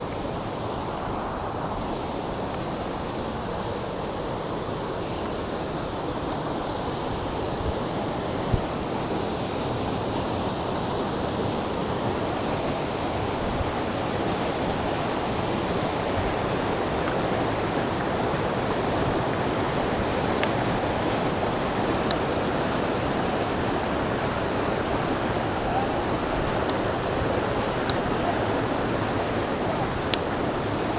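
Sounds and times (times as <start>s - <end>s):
small waterfall rushing: 0.0s - 30.9s.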